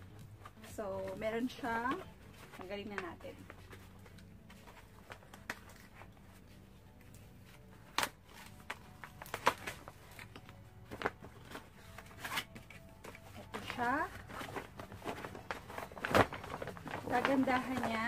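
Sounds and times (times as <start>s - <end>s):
cloth and packaging rustling: 0.0s - 18.0s.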